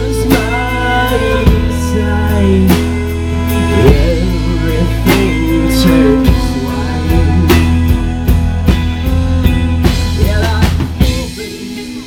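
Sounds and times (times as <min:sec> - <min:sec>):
acoustic guitar: 0:00.0 - 0:12.0
drum kit with cymbal hits: 0:00.0 - 0:12.0
fiddle: 0:00.0 - 0:12.0.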